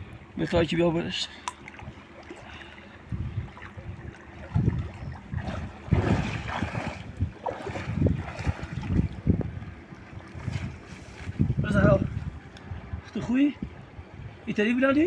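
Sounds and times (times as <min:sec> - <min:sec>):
water sloshing and splashing: 0:00.0 - 0:13.3.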